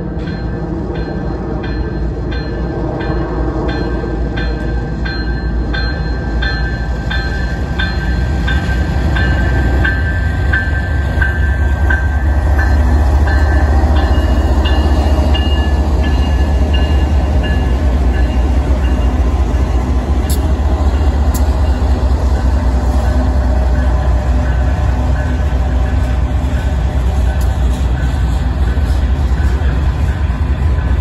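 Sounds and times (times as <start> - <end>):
diesel locomotives rumbling past: 0.0 - 31.0.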